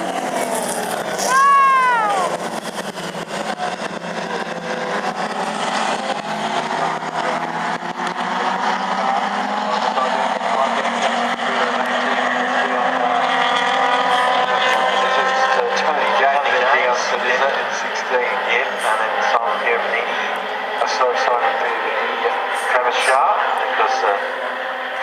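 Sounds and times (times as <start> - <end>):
race car engines running hard: 0.0 - 25.0.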